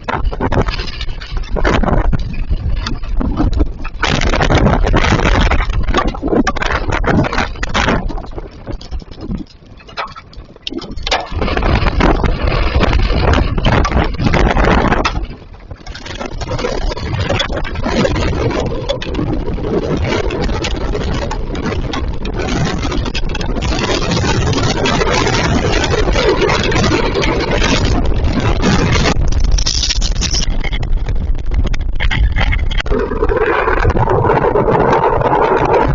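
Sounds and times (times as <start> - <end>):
low rumble: 0.0 - 35.9.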